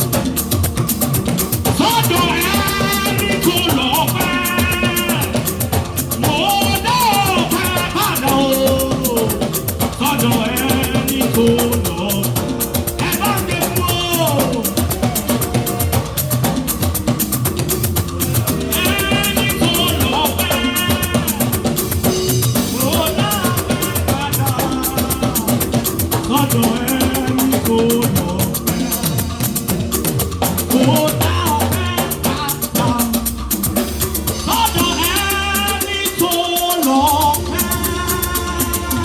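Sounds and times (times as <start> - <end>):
drum kit beat: 0.0 - 39.0
live church praise music: 0.0 - 39.0.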